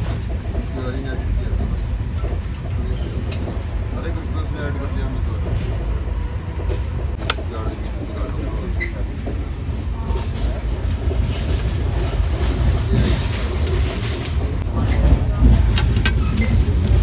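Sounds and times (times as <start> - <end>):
train coach low rumble: 0.0 - 17.0.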